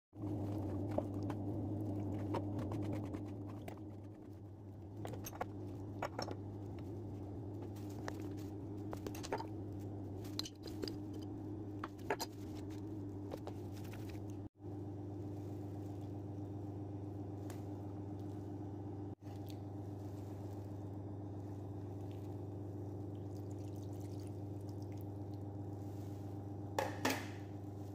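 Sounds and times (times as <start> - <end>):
steady low hum: 0.2 - 27.9.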